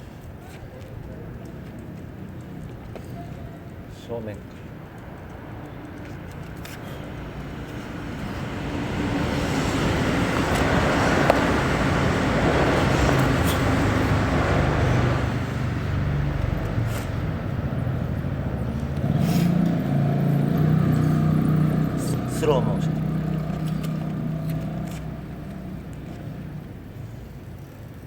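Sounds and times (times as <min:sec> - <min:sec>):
motor vehicle passing: 0:00.0 - 0:28.0.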